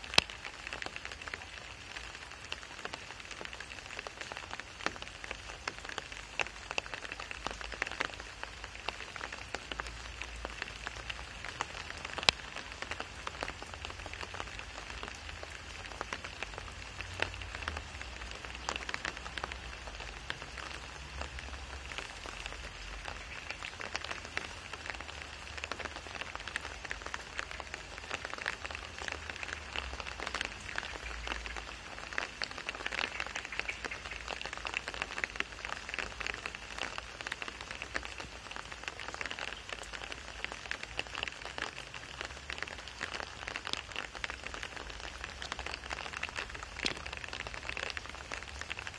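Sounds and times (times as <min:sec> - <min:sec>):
rain on wet asphalt: 0:00.0 - 0:48.9.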